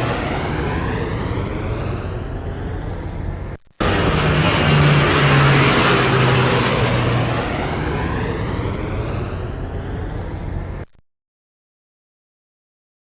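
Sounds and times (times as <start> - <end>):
jet airplane passing: 0.0 - 10.8.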